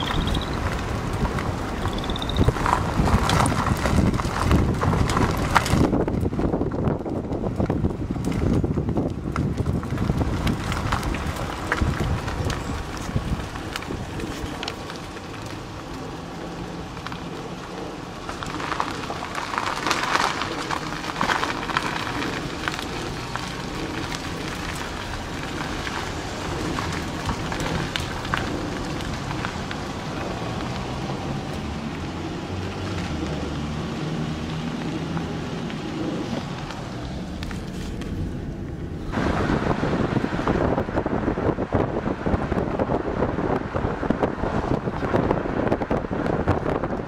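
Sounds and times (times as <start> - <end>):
road and wind noise inside car: 0.0 - 47.0
tyres crackling and ticking: 0.0 - 47.0.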